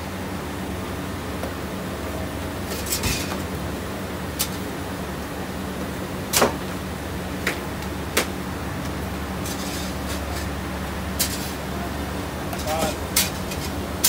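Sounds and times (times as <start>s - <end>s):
oven and ventilation hum: 0.0s - 14.0s.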